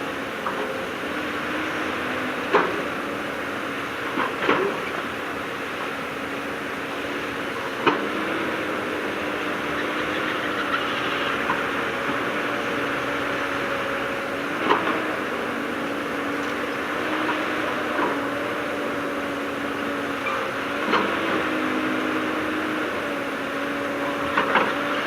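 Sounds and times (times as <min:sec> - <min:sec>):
heavy machinery diesel engine running: 0:00.0 - 0:25.0.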